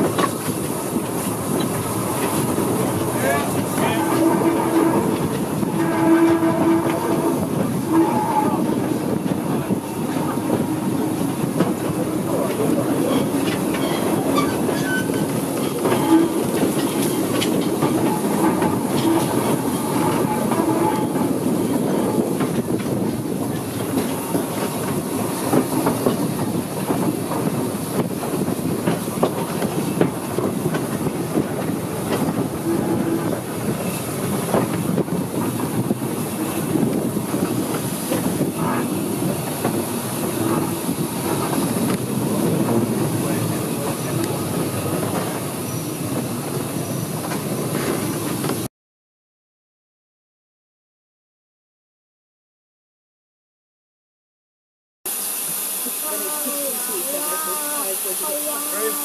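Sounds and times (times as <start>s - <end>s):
train wheels rumbling on rail: 0.0s - 48.7s.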